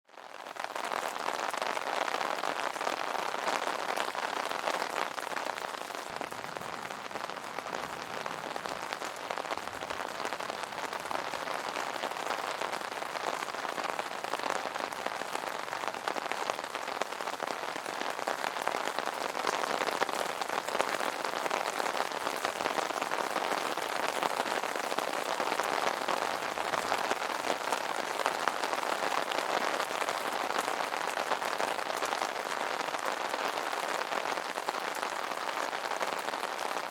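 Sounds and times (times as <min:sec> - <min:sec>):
rain pattering on an umbrella: 0:00.0 - 0:36.9.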